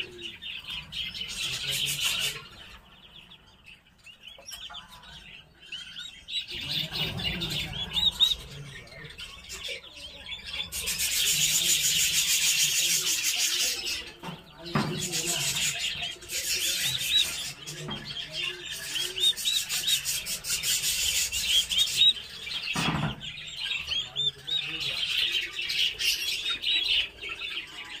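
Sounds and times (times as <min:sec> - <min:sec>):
turkey poults peeping: 0:00.0 - 0:28.0.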